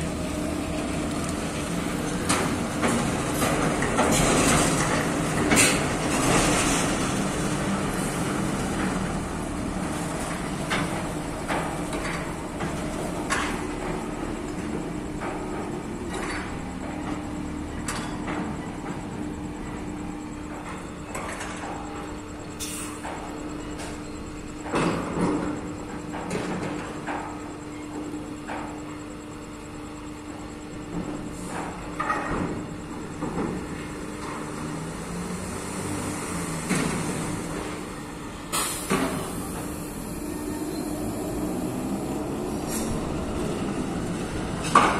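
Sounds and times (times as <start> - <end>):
crane machinery hum: 0.0 - 44.9.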